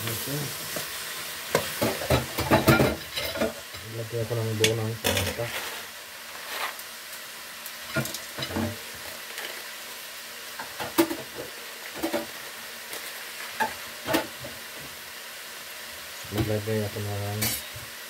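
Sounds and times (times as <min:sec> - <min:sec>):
meat and vegetables sizzling: 0:00.0 - 0:18.0.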